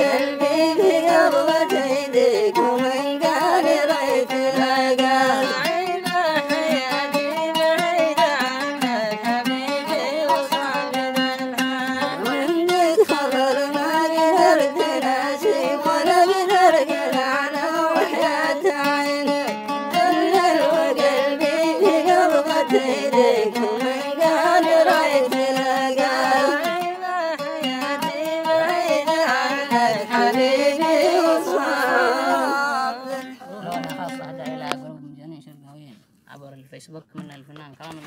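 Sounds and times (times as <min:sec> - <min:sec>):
person singing a melody: 0:00.0 - 0:35.5
instrumental accompaniment: 0:00.0 - 0:35.6.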